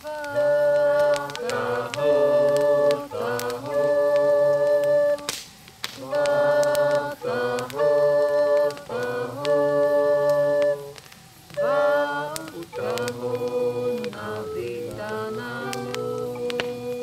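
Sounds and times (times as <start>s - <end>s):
a cappella voices singing: 0.0s - 17.0s.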